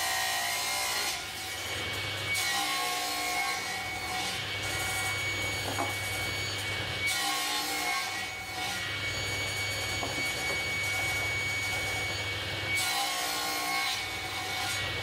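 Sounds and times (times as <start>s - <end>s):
table saw running: 0.0s - 15.0s
saw blade cutting wood: 2.3s - 15.0s.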